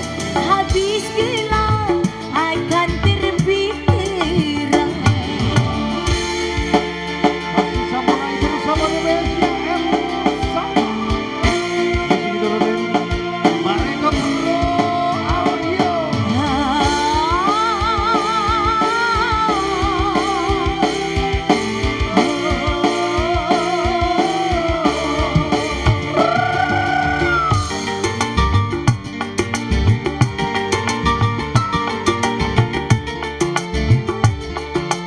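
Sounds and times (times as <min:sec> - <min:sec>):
melodic lead line with vibrato: 0:00.0 - 0:35.0
steady drum beat: 0:00.0 - 0:35.0.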